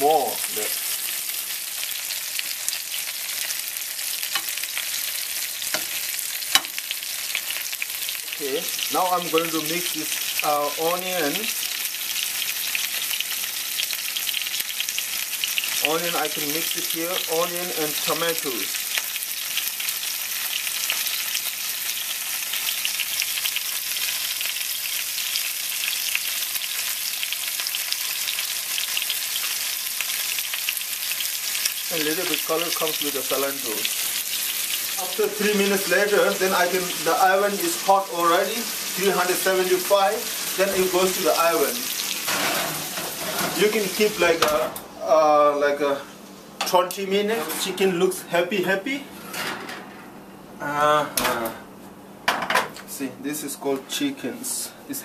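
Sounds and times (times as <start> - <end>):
chicken sizzling in oil: 0.0 - 44.4.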